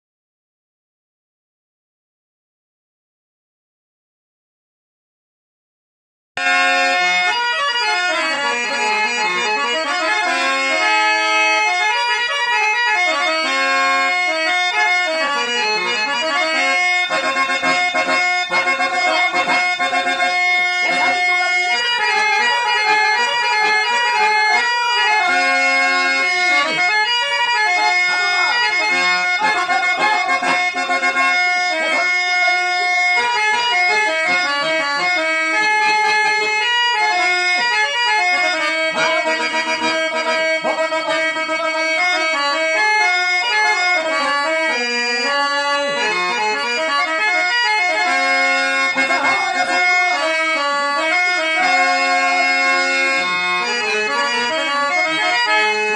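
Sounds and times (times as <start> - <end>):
harmonium melody: 6.4 - 55.9.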